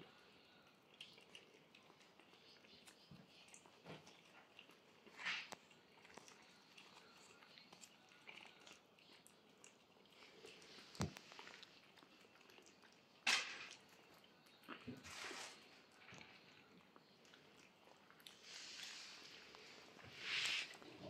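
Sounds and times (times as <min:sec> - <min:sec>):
puppy chewing and licking: 0:00.0 - 0:21.0.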